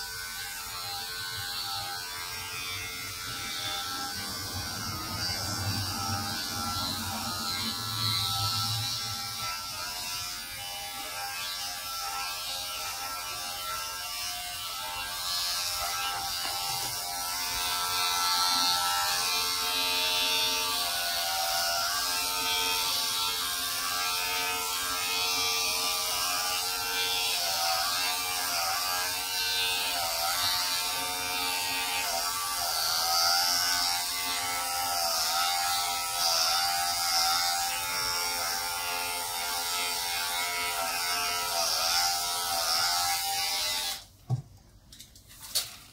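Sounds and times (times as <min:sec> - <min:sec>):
electric hair clipper buzzing: 0:00.0 - 0:44.1.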